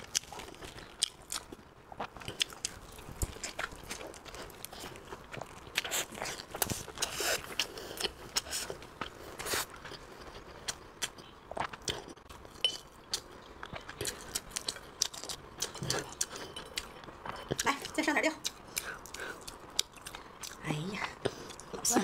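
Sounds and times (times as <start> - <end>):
person chewing crunchy food: 0.0 - 21.8.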